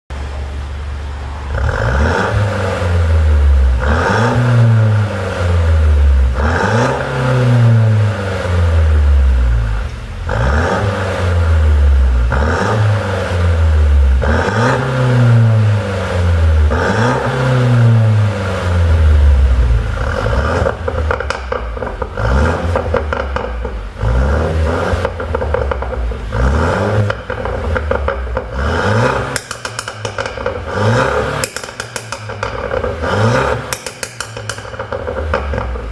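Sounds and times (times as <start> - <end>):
car engine revving: 0.1 - 35.9
exhaust popping and crackling: 0.1 - 35.9.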